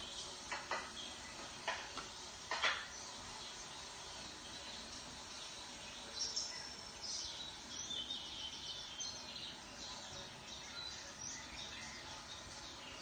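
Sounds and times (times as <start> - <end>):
background hiss: 0.0 - 13.0
birds chirping: 0.0 - 13.0.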